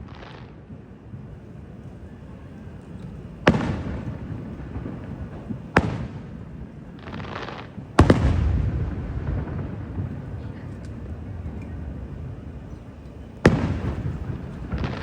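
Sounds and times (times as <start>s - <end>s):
fireworks bangs with echo: 0.0s - 15.0s
fireworks crackle: 0.0s - 15.0s.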